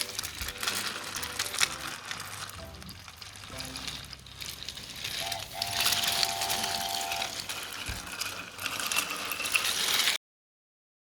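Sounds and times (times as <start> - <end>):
wooden toy train clattering: 0.0 - 10.2.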